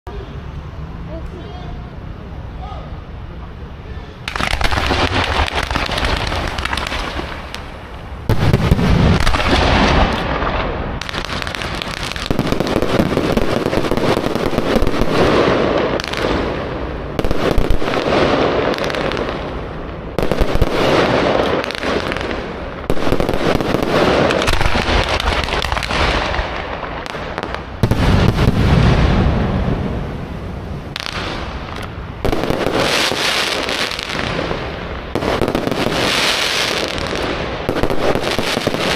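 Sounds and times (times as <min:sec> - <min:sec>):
fireworks bangs and crackling: 0:04.2 - 0:38.9.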